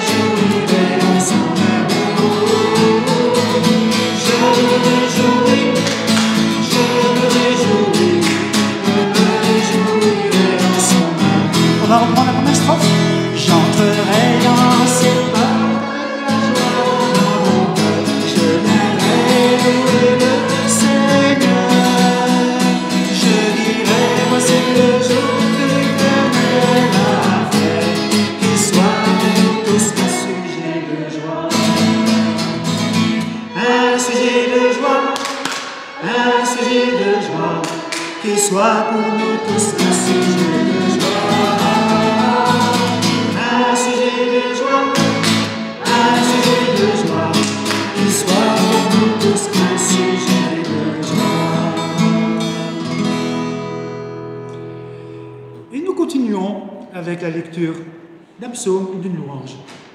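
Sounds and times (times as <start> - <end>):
man singing worship song: 0.0 - 32.0, 33.5 - 52.6
violin: 0.0 - 54.7
strummed acoustic guitar: 0.0 - 56.1.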